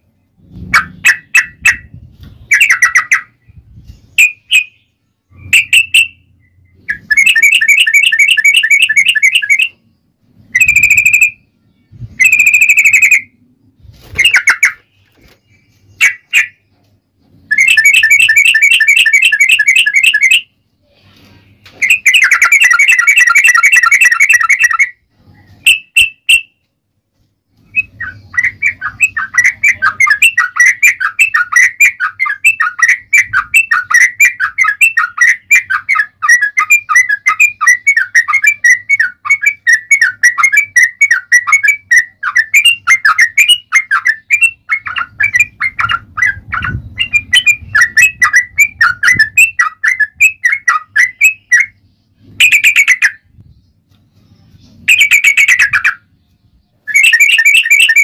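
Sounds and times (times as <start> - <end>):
bird singing chattering trills: 0.0 - 13.5, 14.2 - 20.6, 21.8 - 26.5, 27.5 - 58.0.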